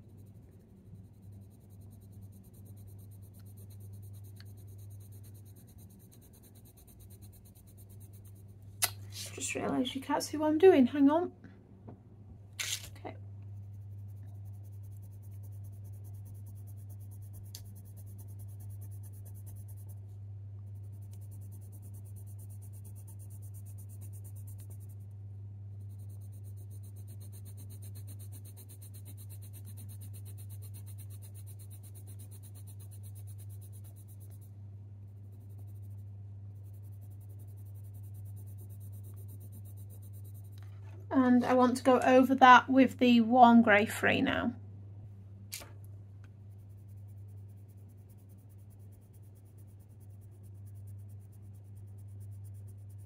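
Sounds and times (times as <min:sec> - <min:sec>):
pencil scratching on paper: 0:00.0 - 0:10.1, 0:13.4 - 0:42.5, 0:46.4 - 0:53.0
steady low hum: 0:00.0 - 0:53.0.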